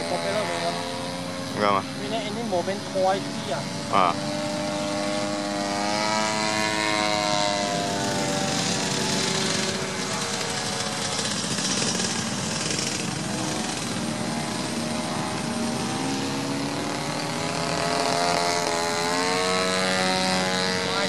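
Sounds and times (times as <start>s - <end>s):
model plane two-stroke engine: 0.0s - 21.0s.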